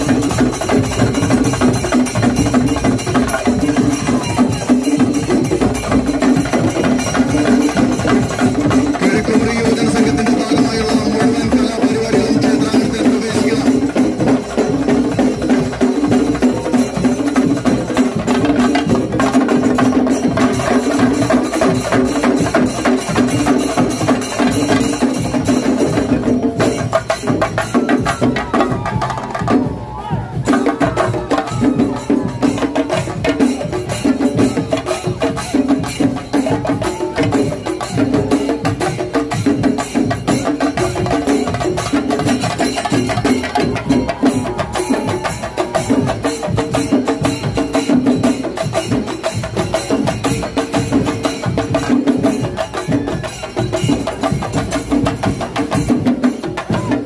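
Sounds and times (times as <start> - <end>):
hand cymbals: 0.0 - 28.8, 30.4 - 57.0
chenda drums beaten with sticks: 0.0 - 57.0.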